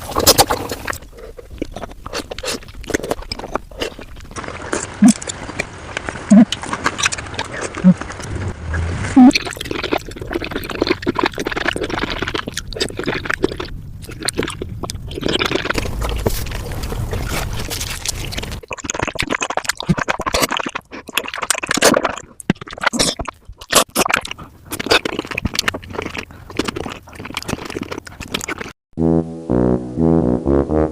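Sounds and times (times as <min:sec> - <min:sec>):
wet slurps and chewing clicks: 0:00.0 - 0:08.3, 0:09.2 - 0:28.8.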